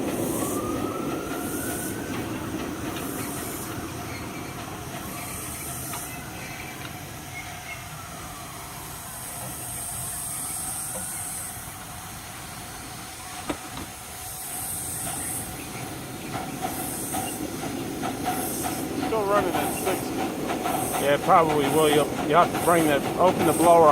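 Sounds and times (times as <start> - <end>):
steam locomotive hissing: 0.0 - 23.9.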